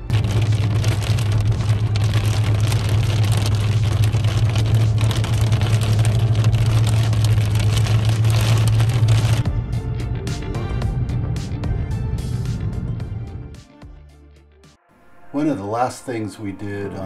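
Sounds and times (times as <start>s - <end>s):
car engine and tyre drone: 0.0s - 14.0s.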